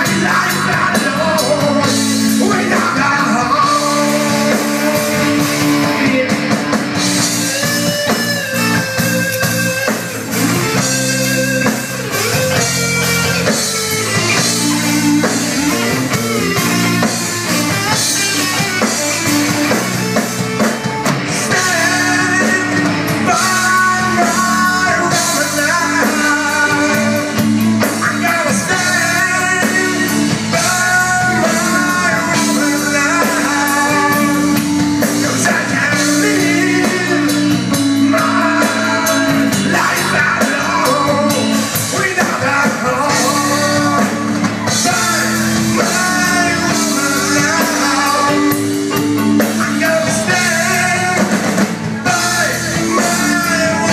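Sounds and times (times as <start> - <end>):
drum kit: 0.0 - 53.9
electric guitars: 0.0 - 53.9
live rock band playing: 0.0 - 53.9.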